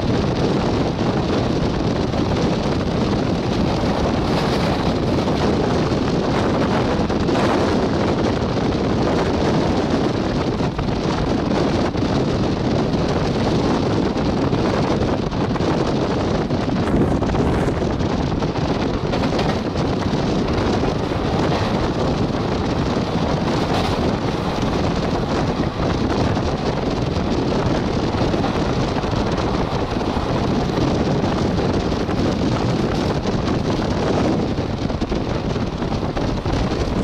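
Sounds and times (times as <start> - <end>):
moving train rumble: 0.0 - 37.0
wind rush on microphone: 0.0 - 37.0.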